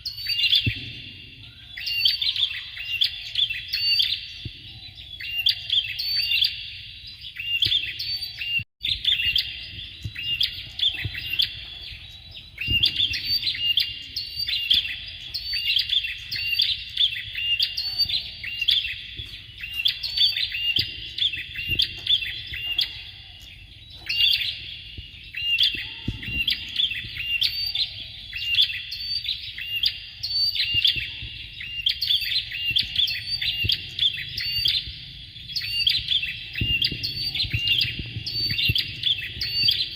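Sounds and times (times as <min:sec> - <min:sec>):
birds chirping sharply: 0:00.0 - 0:39.9.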